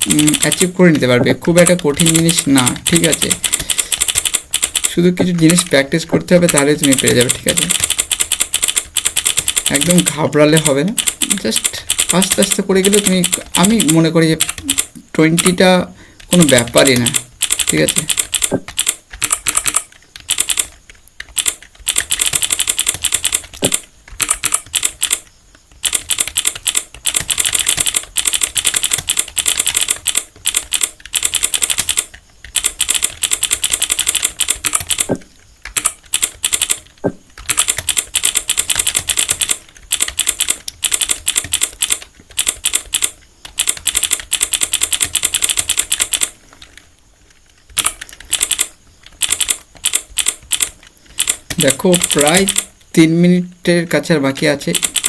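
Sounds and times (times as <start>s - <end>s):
computer keyboard typing: 0.0s - 53.1s, 54.3s - 55.0s.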